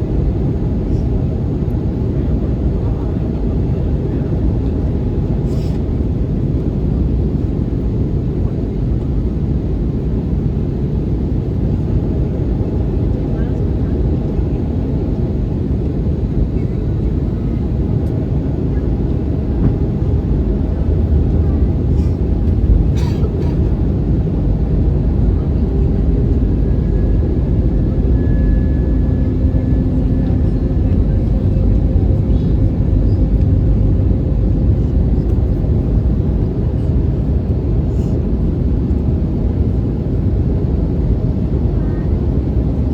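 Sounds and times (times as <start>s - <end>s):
airliner cabin roar: 0.0s - 42.9s.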